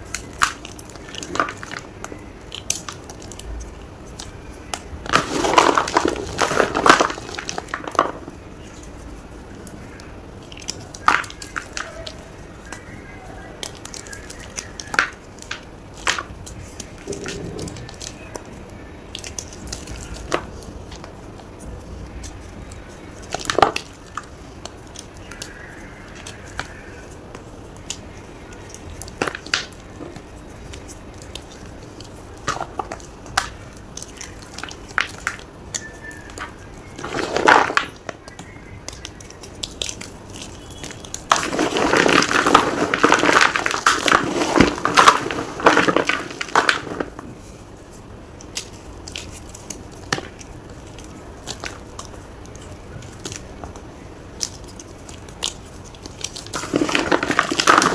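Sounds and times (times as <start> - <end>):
chalk crunching and cracking: 0.0 - 57.9.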